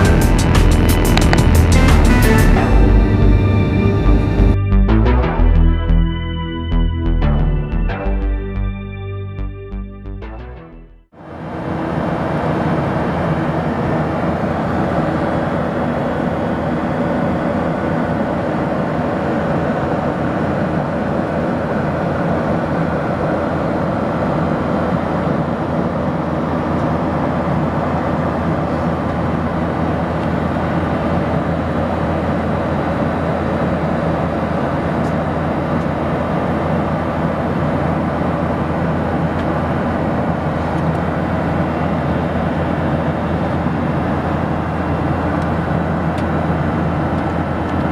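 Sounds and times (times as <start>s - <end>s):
airplane cabin engine drone: 0.0s - 47.9s.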